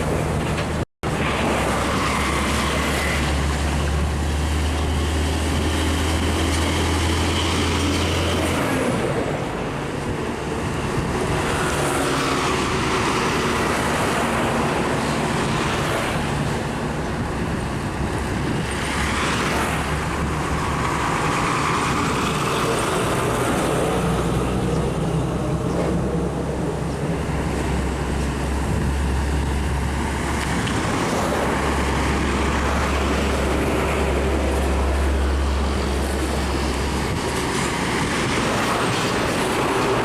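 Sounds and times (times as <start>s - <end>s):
truck engines rumbling: 0.0s - 40.0s
vehicles passing slowly: 0.0s - 40.0s.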